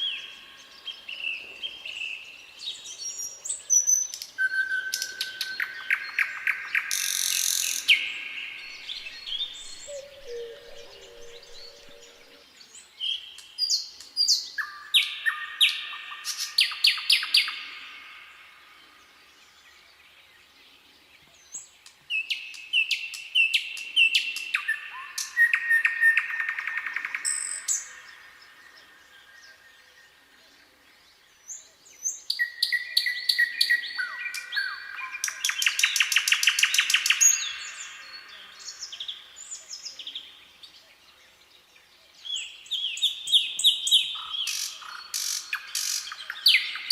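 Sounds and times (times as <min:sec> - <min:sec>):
nightingale singing: 0:00.0 - 0:46.9.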